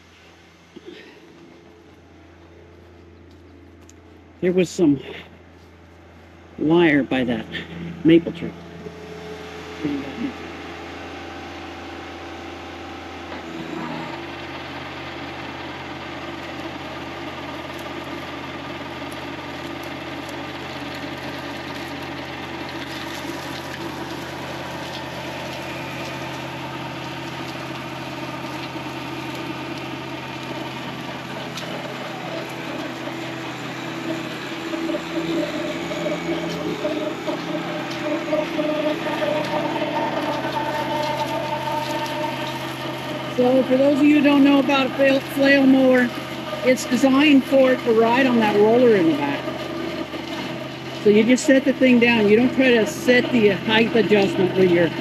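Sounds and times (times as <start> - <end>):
tractor diesel engine under load: 4.2 - 55.0
flail mower cutting grass: 6.6 - 55.0.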